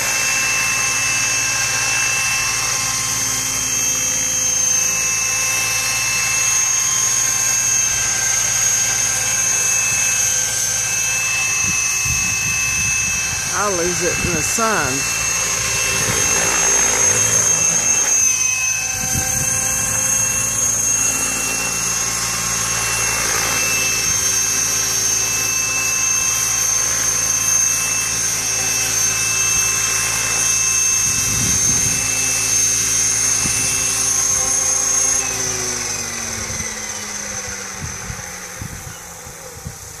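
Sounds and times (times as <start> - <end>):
model helicopter whine: 0.0 - 40.0
rotor hum: 0.0 - 40.0.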